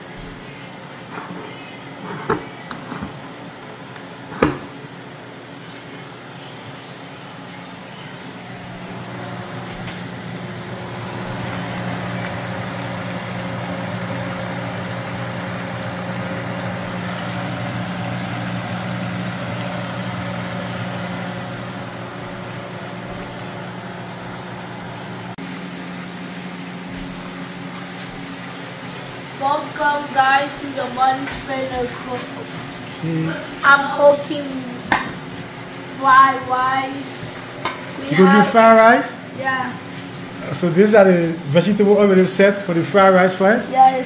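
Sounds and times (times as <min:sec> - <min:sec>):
low machine hum: 0:05.0 - 0:44.0.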